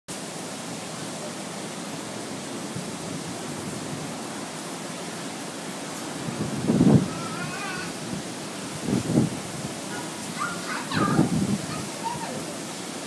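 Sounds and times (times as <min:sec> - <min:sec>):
heavy surf: 0:00.1 - 0:13.0
hurricane wind rushing: 0:00.2 - 0:13.0.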